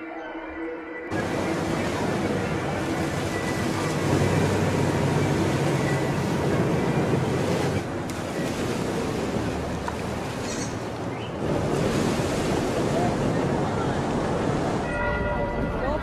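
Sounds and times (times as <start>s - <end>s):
wind rushing on microphone: 1.1s - 15.0s.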